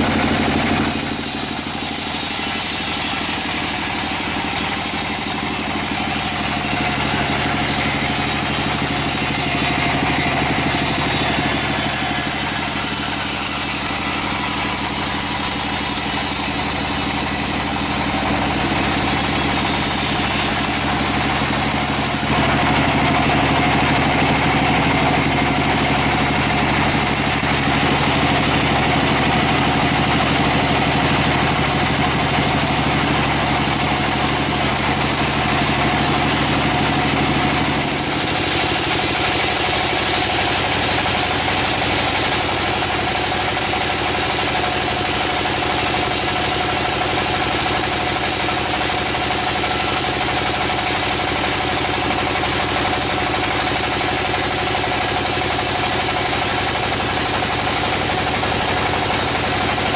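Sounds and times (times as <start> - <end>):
band sawmill cutting log: 0.0 - 59.9.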